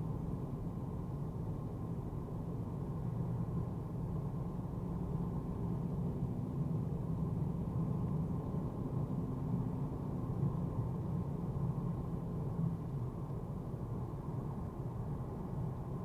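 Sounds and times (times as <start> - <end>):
road and engine drone in car cabin: 0.0 - 16.0.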